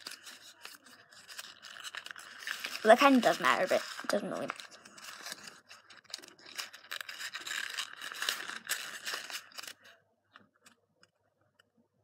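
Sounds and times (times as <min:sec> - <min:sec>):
paper crinkling and rustling: 0:00.0 - 0:10.8.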